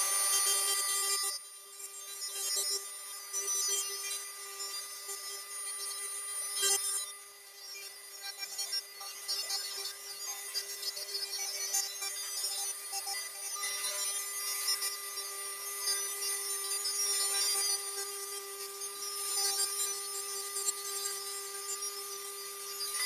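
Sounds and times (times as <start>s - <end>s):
rotary tool whining: 0.0s - 23.0s.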